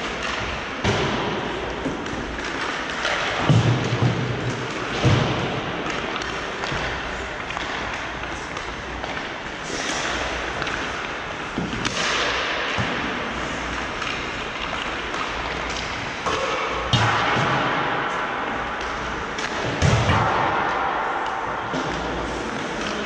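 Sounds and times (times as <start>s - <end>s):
stick hitting puck: 0.0s - 23.0s.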